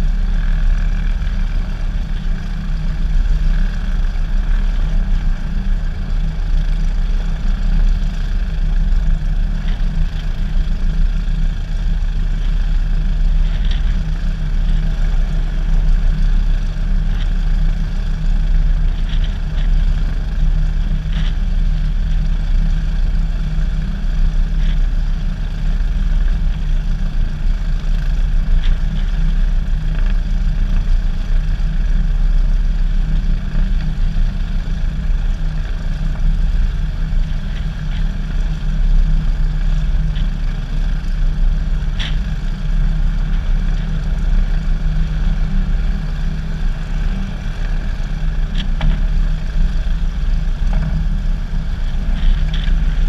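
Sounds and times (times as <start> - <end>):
propeller plane engine running: 0.0 - 53.0.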